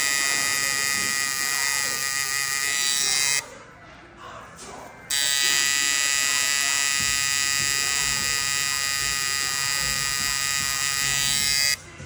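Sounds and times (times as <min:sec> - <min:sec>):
tattoo machine buzzing: 0:00.0 - 0:03.4, 0:05.1 - 0:11.8.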